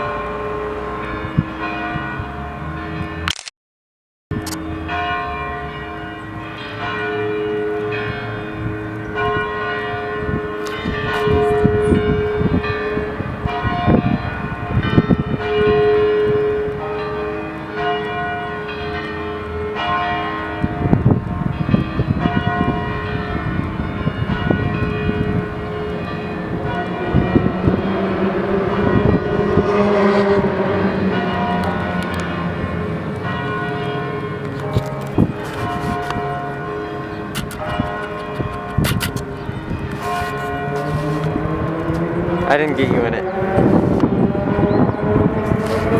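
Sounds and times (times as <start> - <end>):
church bells ringing: 0.0 - 3.3, 4.4 - 45.9.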